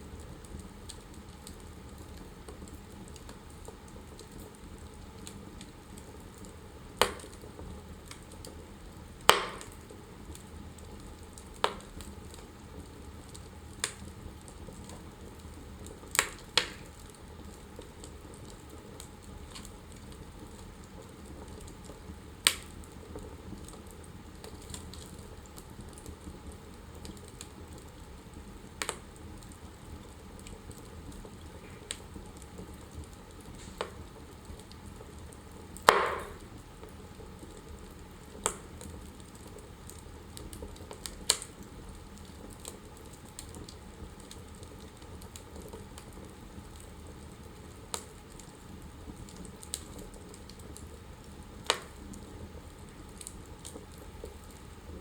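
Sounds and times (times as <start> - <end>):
fire crackling and hissing: 0.0 - 55.0
sharp pops of fire: 5.2 - 8.6, 9.2 - 27.9, 28.8 - 29.6, 30.4 - 48.6, 49.2 - 55.0.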